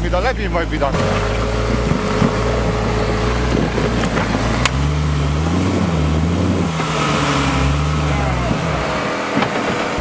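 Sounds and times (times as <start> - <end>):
jeep engine running: 0.0 - 10.0.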